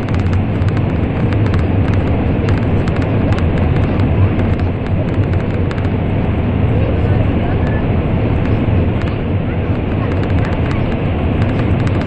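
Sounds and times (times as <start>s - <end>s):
train rumbling through tunnel: 0.0s - 12.0s.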